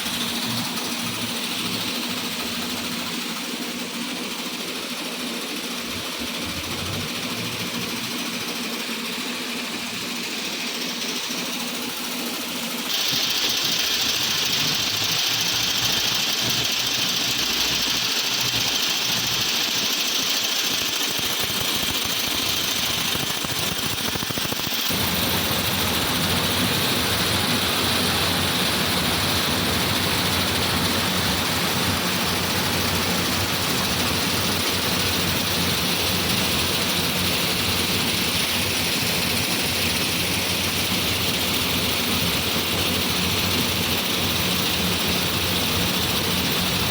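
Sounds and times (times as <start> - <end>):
tractor engine running: 5.6 - 46.9.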